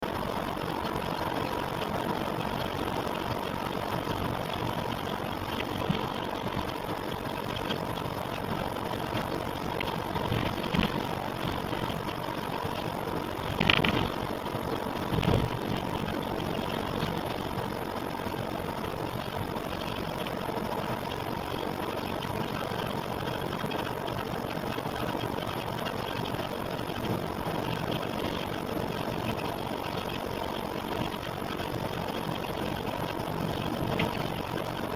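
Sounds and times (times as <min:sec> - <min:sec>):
engine idling: 0:00.0 - 0:34.9
engine knocks: 0:00.0 - 0:34.9
faint whine: 0:00.0 - 0:34.9.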